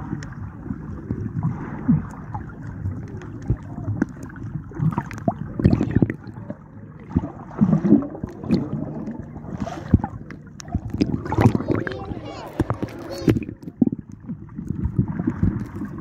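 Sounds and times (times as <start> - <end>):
underwater water sloshing: 0.0 - 16.0.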